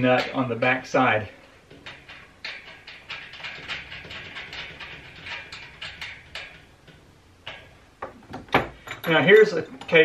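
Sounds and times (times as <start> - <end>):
nut threading onto bolt: 1.7 - 10.0.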